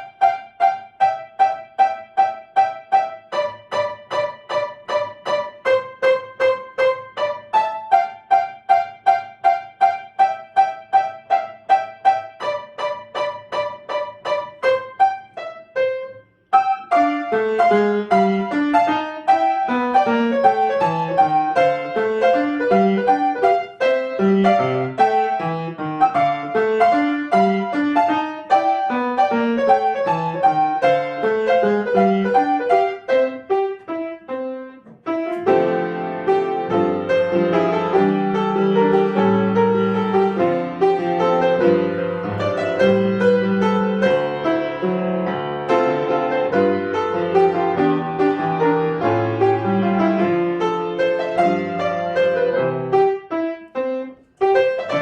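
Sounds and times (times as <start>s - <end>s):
piano playing: 0.0s - 55.0s.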